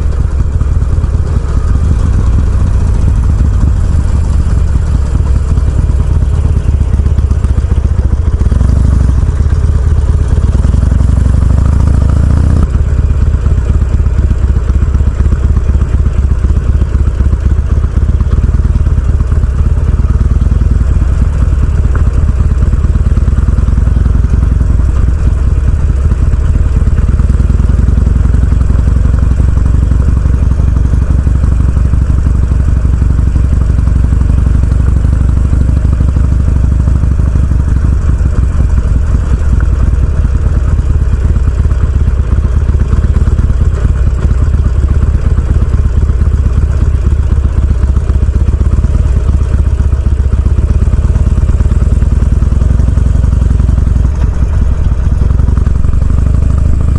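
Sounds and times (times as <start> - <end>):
motorcycle engine rumbling: 0.0 - 56.9.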